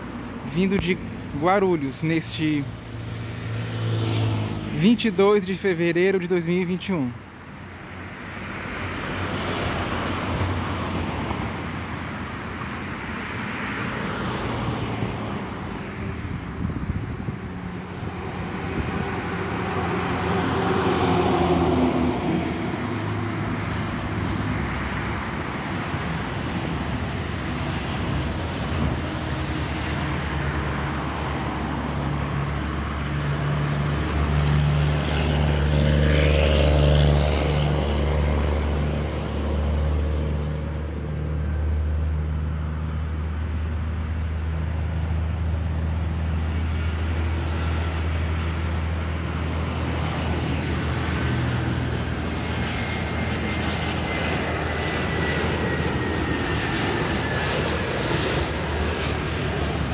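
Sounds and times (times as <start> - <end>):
jet engines rumbling: 0.0 - 59.9
road traffic noise: 0.0 - 59.9.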